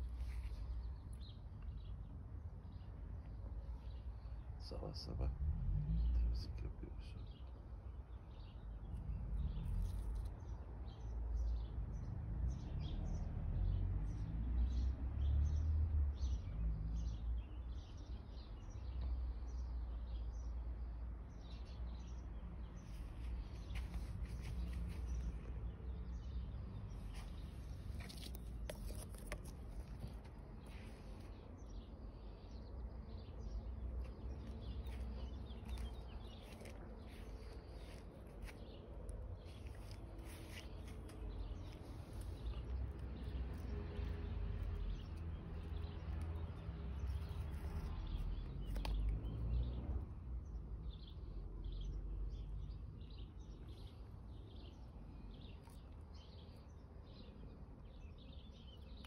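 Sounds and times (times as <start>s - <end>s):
small birds chirping: 0.0s - 5.3s, 5.9s - 59.0s.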